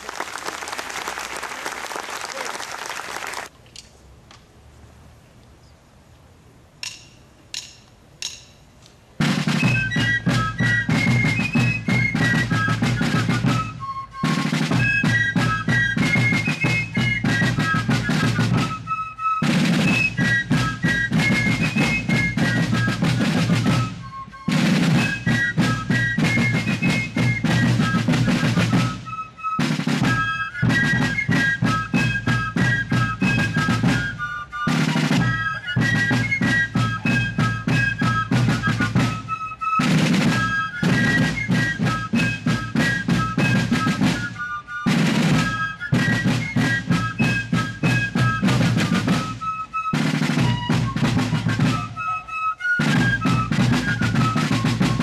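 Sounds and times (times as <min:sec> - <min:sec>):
fifes playing shrill melody: 0:09.2 - 0:55.0
snare drums rattling: 0:09.2 - 0:55.0.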